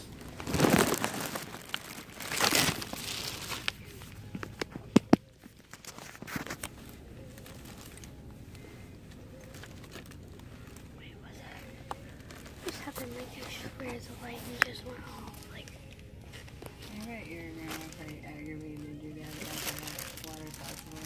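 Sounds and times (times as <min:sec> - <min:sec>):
crinkling handling noises: 0:00.0 - 0:21.0.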